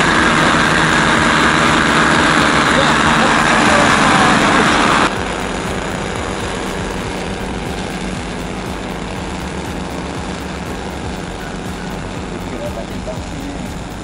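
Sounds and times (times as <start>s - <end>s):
model plane engines running: 0.0s - 14.0s.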